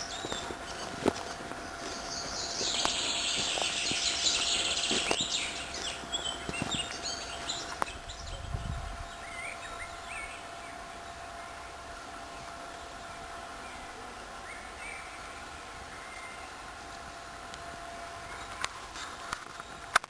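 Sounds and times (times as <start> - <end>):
wild birds singing: 0.0 - 17.2, 17.8 - 18.8.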